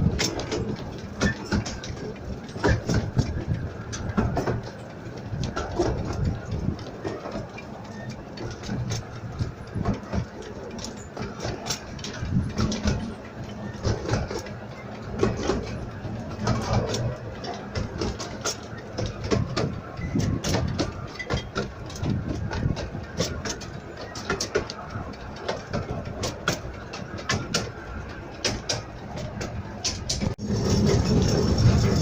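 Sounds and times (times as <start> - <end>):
miniature steam train rumble: 0.0 - 32.0
wheels clattering on track: 0.0 - 32.0.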